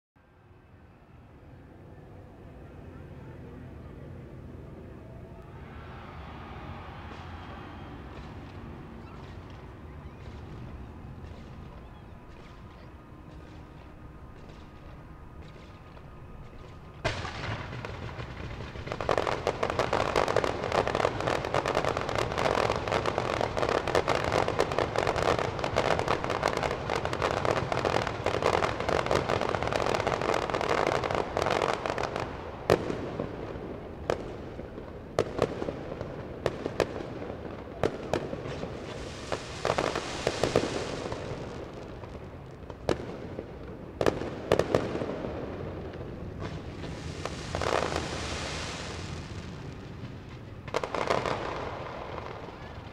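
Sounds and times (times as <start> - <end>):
fireworks crackling bursts: 6.7 - 52.9.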